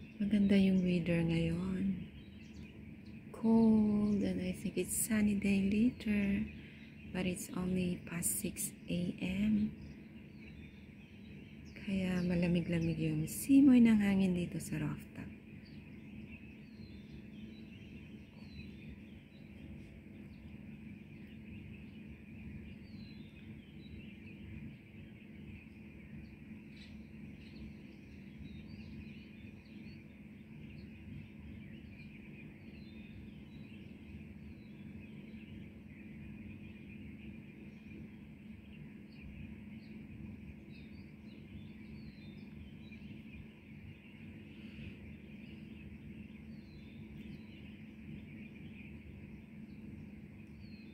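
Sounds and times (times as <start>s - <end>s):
low background hum: 0.0s - 50.9s
small birds chirping: 0.0s - 50.9s.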